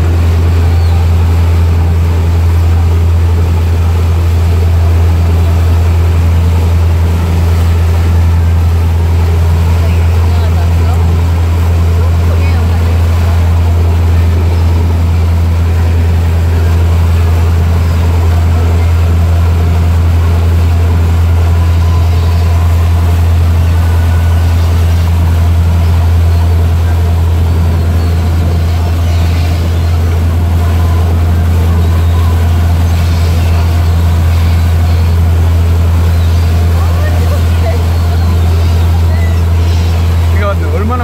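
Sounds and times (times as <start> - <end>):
boat engine droning: 0.0 - 41.0
churning wake rushing: 0.0 - 41.0.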